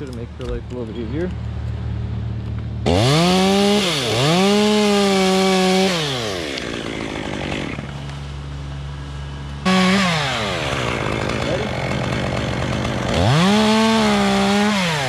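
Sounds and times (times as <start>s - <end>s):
chainsaw cutting and idling: 2.8s - 15.0s.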